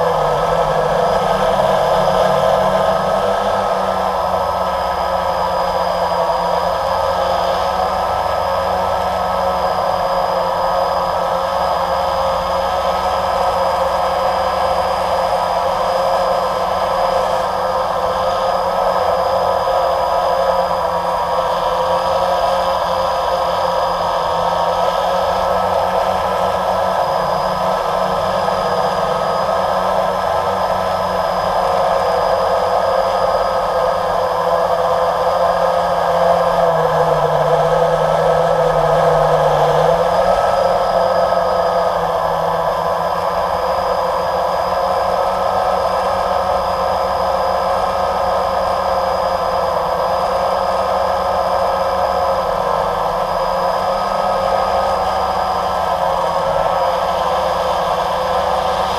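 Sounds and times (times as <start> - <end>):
drone motors whirring: 0.0 - 58.9.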